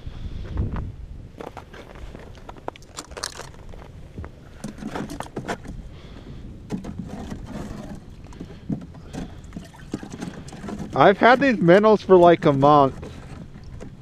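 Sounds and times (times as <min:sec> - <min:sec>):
gear knocks and scrapes: 0:01.4 - 0:05.8, 0:06.7 - 0:14.0.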